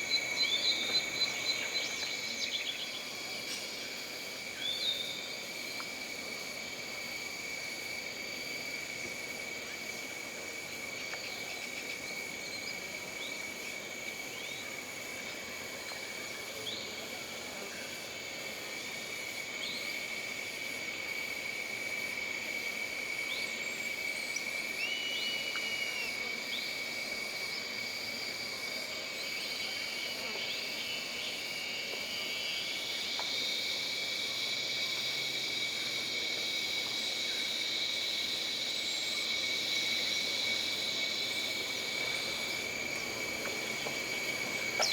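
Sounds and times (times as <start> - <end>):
higher insect chorus: 0.0 - 44.9.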